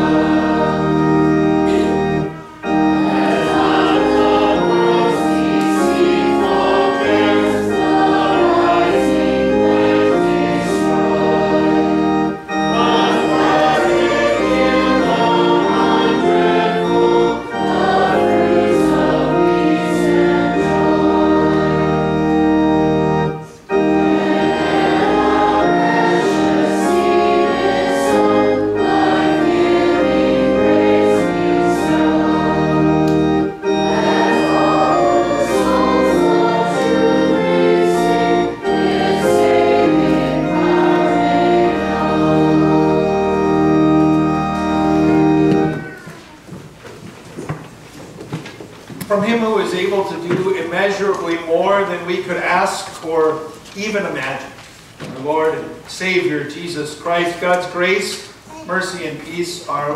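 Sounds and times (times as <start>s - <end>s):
congregation singing a hymn: 0.0s - 46.0s, 49.0s - 59.9s
organ chords: 0.0s - 59.9s.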